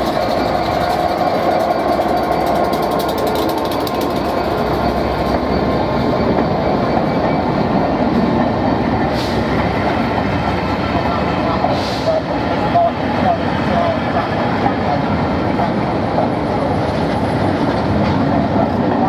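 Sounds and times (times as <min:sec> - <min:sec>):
diesel locomotive engine running: 0:00.0 - 0:19.0
train wheels rolling on rails: 0:00.0 - 0:19.0.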